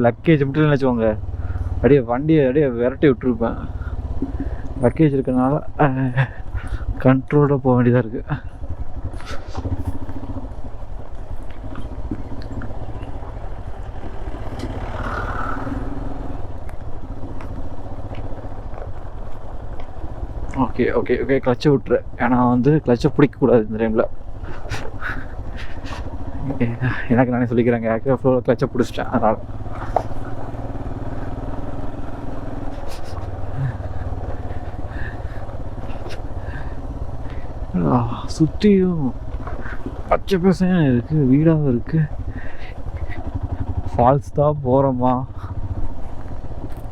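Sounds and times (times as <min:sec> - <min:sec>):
motorcycle clattering over bumps: 0:00.0 - 0:46.9
motorcycle engine running: 0:00.0 - 0:46.9.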